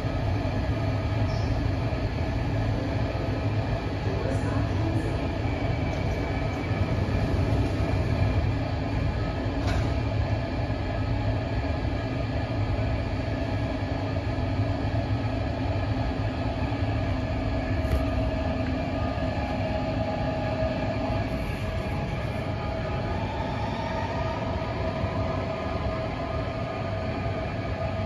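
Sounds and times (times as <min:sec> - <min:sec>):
low hum: 0:00.0 - 0:28.0
metro train rumble: 0:00.0 - 0:28.0.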